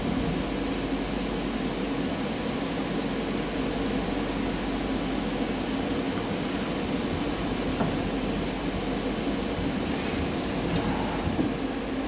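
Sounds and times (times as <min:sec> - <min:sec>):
lathe mechanical hum: 0:00.0 - 0:12.0.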